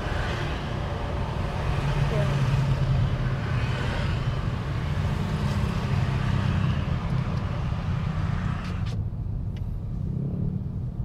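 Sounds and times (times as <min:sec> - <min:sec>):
road and wind hiss: 0:00.0 - 0:11.0.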